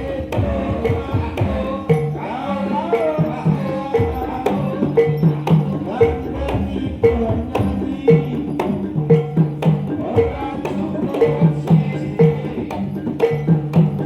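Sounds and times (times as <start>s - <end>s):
gamelan music: 0.0s - 14.0s
sharp percussive strokes: 0.0s - 14.0s.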